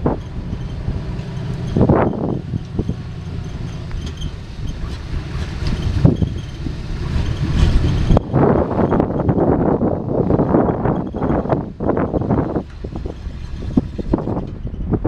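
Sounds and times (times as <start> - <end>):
truck engine running: 0.0 - 15.0
wind buffeting microphone: 0.0 - 15.0.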